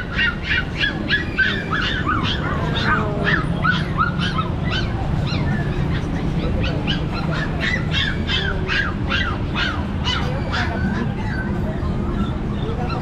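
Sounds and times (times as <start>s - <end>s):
puppies yelping and whining: 0.0s - 13.0s.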